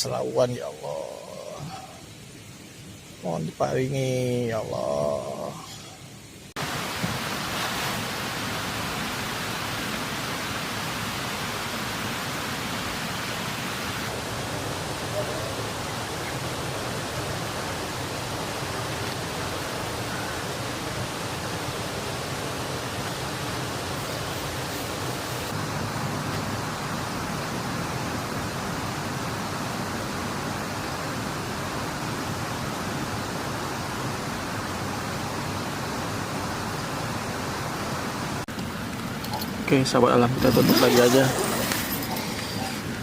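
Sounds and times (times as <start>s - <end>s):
water rushing over a weir: 6.2s - 43.0s.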